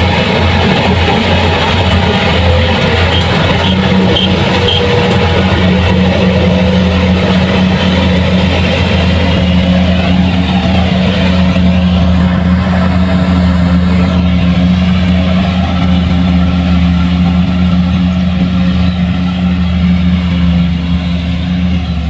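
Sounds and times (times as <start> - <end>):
combine harvester engine drone: 0.0 - 22.0
machinery noise: 0.0 - 22.0.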